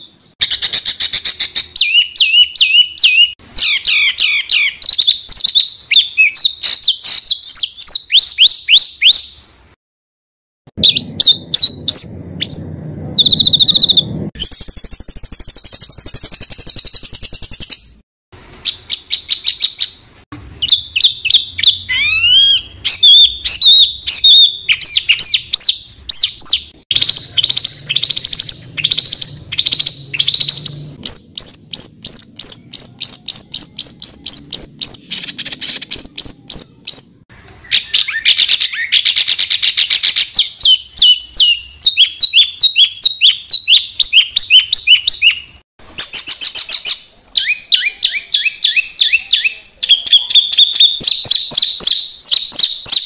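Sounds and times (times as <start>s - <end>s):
songbirds singing rapid notes: 0.0s - 9.5s, 10.8s - 18.0s, 18.6s - 53.0s.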